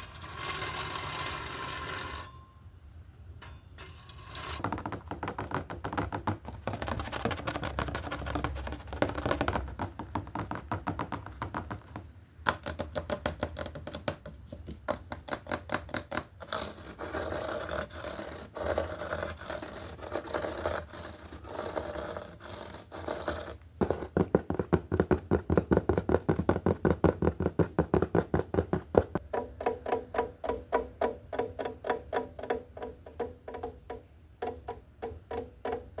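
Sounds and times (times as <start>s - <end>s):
rapid tapping on hard surface: 4.6s - 36.0s.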